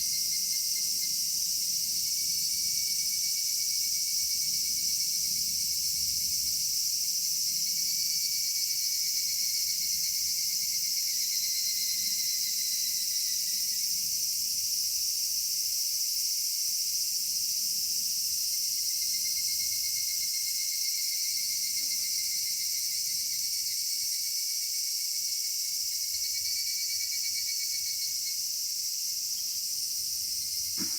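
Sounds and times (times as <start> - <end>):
cicadas chorusing: 0.0 - 30.9.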